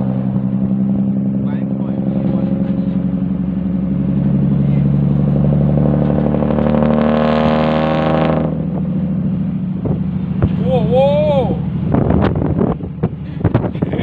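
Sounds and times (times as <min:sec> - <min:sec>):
diesel truck engine accelerating: 0:00.0 - 0:14.0.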